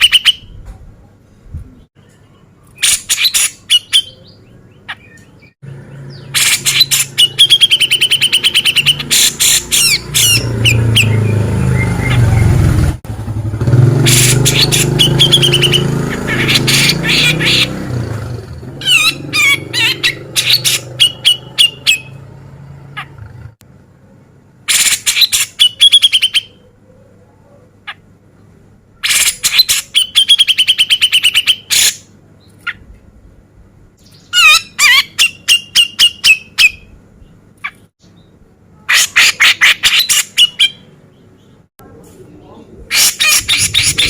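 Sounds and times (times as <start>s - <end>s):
bird singing harsh trills: 0.0s - 0.6s, 2.0s - 13.0s, 13.9s - 23.2s, 24.7s - 26.7s, 29.0s - 32.9s, 34.0s - 41.7s, 42.9s - 44.0s.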